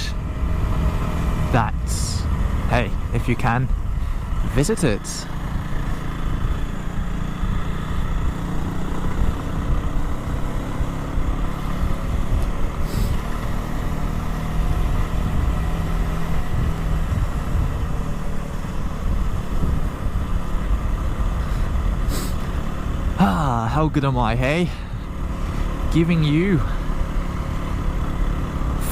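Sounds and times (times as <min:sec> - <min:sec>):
motorcycle engine running: 0:00.0 - 0:28.9
wind and road noise: 0:00.0 - 0:28.9.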